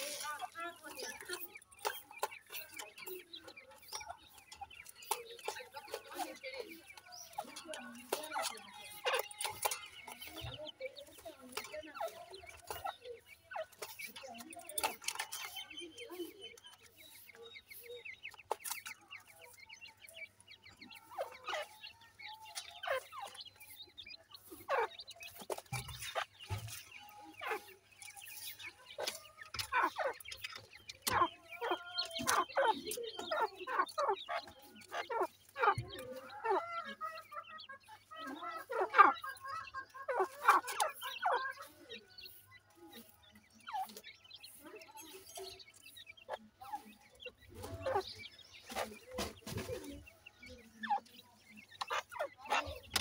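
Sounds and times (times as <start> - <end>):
chicks peeping: 0.0 - 53.0
francolin clucking: 0.0 - 53.0.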